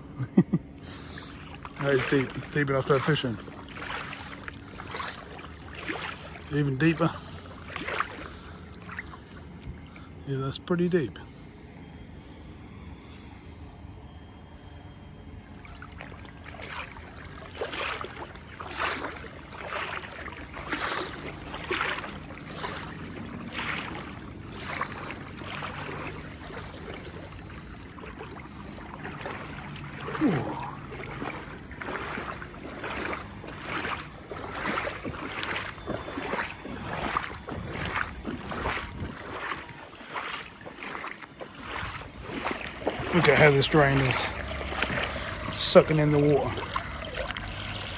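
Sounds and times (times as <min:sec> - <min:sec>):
wading through water: 0:00.0 - 0:47.9.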